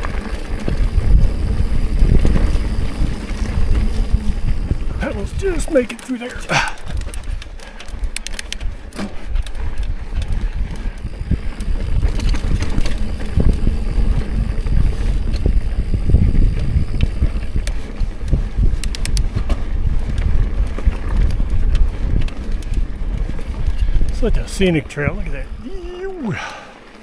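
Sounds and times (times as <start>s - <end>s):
wind rumble on microphone: 0.0s - 26.4s
bike clicking and rattling: 0.0s - 27.0s
tyres crunching on rock and gravel: 0.0s - 27.0s.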